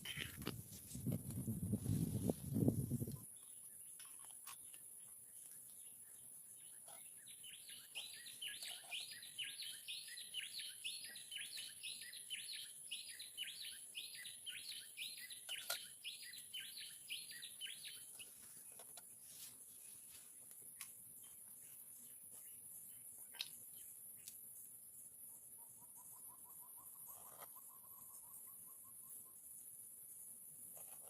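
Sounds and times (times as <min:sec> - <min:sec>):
bird chirping: 0:01.4 - 0:31.0.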